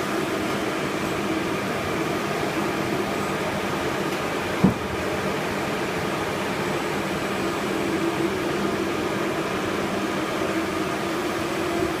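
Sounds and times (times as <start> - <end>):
printer fans whirring: 0.0 - 12.0.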